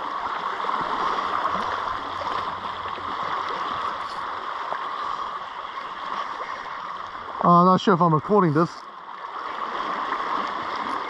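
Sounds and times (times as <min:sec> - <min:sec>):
sea water washing around rocks: 0:00.0 - 0:11.0.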